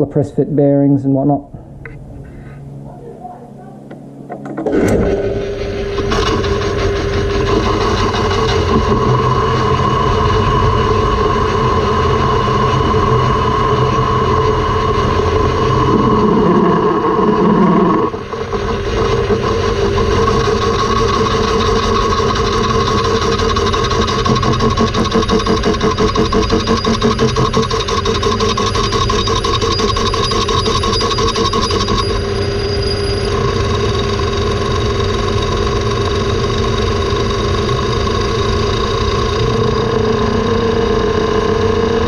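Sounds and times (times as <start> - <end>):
lathe gear whine: 0.0 - 42.0
lathe tool cutting metal: 4.4 - 42.0.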